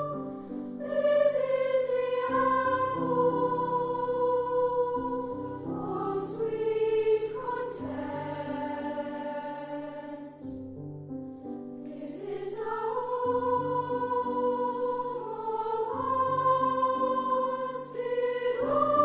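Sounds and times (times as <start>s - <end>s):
choir singing: 0.0s - 10.5s, 11.8s - 19.0s.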